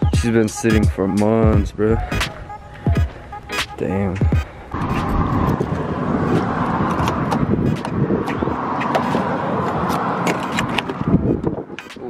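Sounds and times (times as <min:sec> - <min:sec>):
steady rushing noise: 0:01.5 - 0:12.0.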